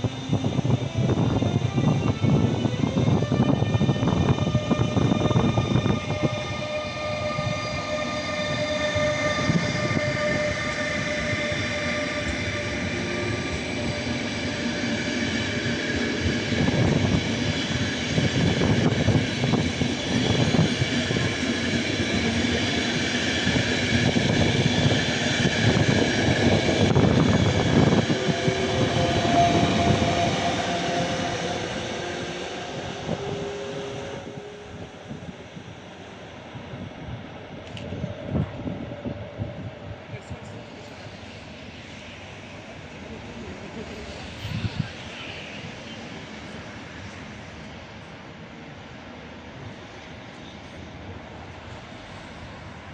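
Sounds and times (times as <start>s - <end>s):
electric locomotive whining: 0.0s - 52.9s
train coaches rumbling and clattering: 0.0s - 52.9s.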